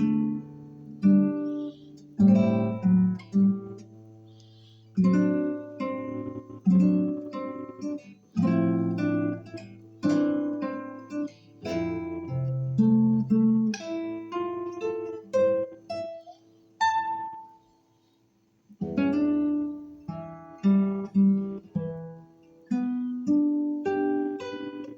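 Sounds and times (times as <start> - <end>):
classical guitar fingerpicking: 0.0 - 24.9.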